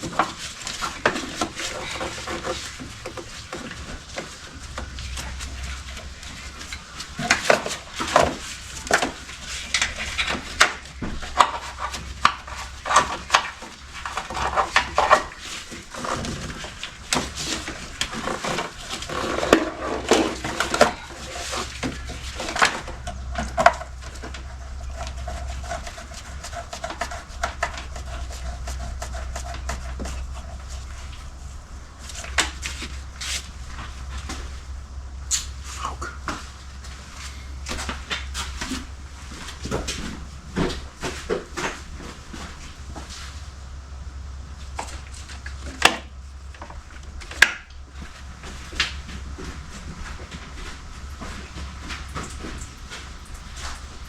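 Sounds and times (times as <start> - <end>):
steady low hum: 0.0 - 54.0
steady whine: 0.0 - 54.0.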